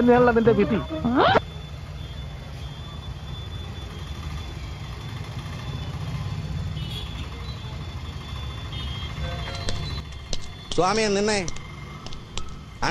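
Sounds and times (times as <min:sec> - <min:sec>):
traffic engine hum: 0:00.0 - 0:12.9.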